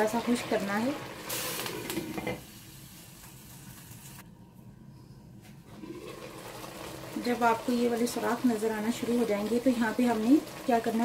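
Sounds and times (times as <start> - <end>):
rice sizzling softly: 0.0 - 4.3, 5.7 - 11.0.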